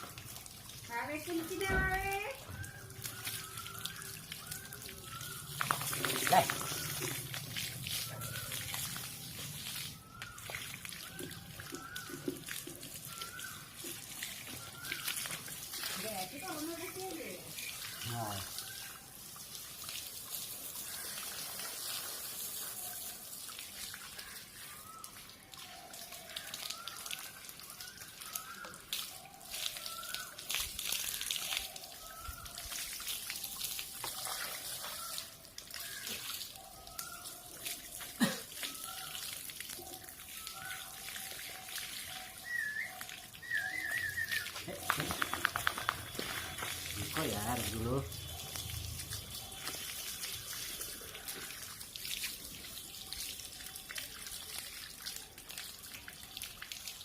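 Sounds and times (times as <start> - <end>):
tap water running and splashing: 0.0 - 57.0.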